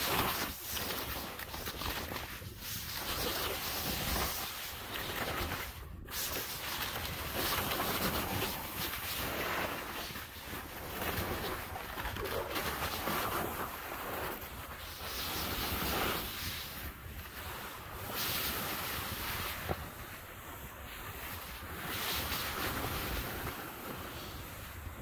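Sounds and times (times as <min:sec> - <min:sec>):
board hissing over snow: 0:00.0 - 0:25.0.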